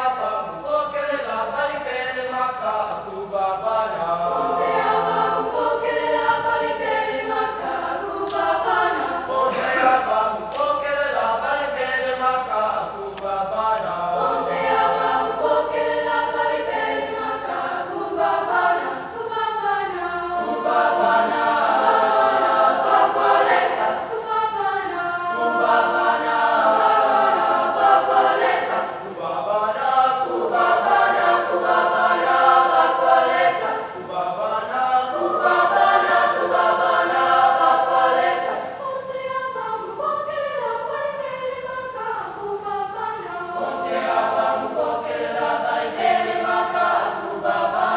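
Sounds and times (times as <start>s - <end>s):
choir singing in parts: 0.0s - 47.9s.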